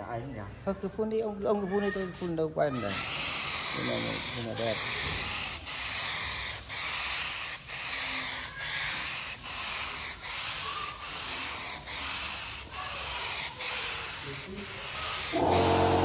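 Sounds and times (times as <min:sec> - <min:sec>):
air spray gun hissing: 0:01.6 - 0:16.0.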